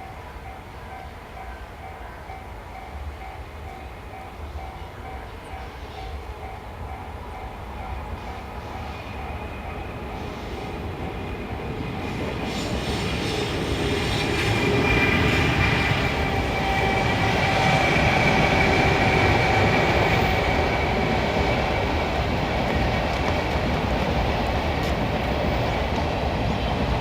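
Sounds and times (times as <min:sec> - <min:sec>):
train rumbling past: 0:00.0 - 0:27.0
train wheels on rails: 0:00.0 - 0:27.0.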